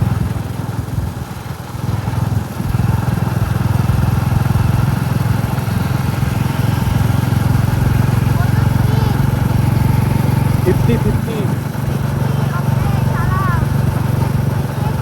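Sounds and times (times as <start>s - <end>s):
motorcycle engine thumping: 0.0s - 15.0s.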